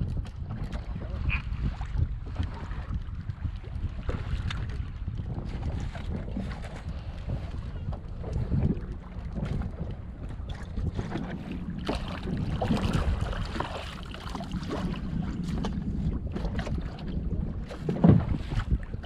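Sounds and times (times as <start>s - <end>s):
steady low rumble: 0.0s - 19.0s
wind buffeting microphone: 0.0s - 19.0s.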